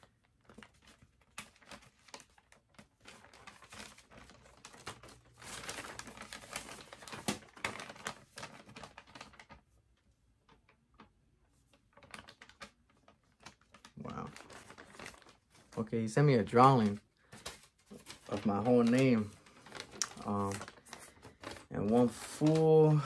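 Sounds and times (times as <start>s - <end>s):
paper rustling and crackling: 0.0s - 23.0s.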